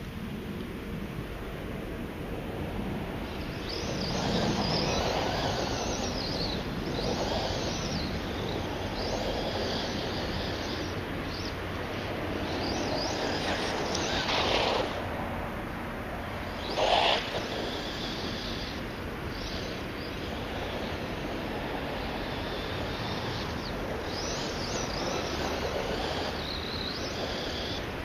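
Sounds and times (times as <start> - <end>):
steady rushing noise: 0.0 - 28.0
electric motor whining: 3.2 - 15.4, 16.2 - 28.0.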